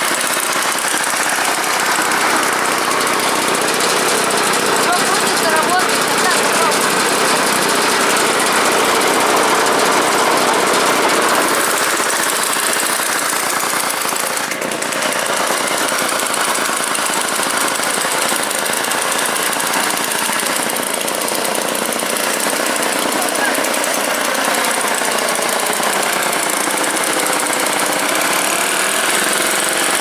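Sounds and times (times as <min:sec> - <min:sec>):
two-stroke chainsaw engine running: 0:00.0 - 0:30.0.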